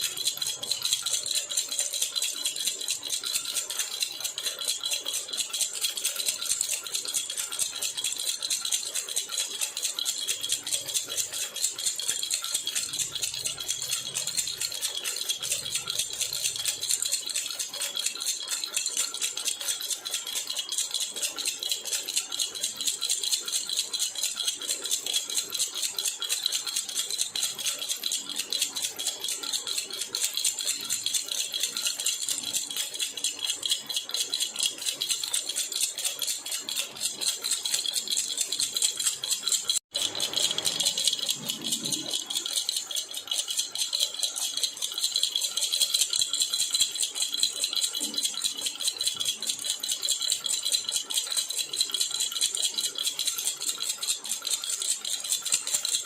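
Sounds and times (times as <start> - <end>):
baby rattle shaken rapidly: 0.0 - 56.0.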